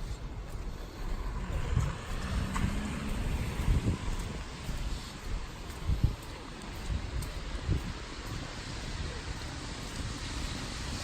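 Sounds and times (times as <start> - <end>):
car passing on wet street: 0.0 - 11.0
wind buffeting microphone: 0.0 - 11.0.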